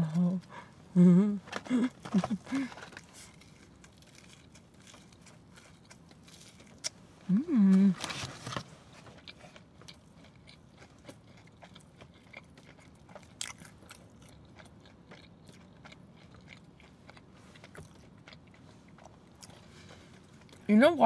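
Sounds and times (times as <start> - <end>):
crunchy chewing: 1.5 - 7.0, 8.0 - 20.7.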